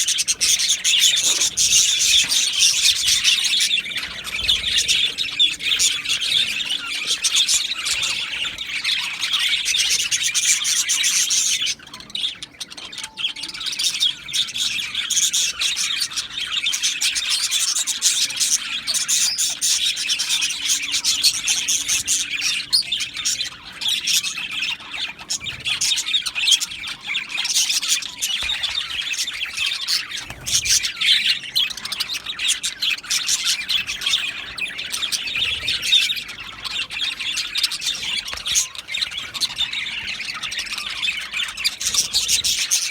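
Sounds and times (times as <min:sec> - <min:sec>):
budgerigars chirping and squawking: 0:00.0 - 0:42.9.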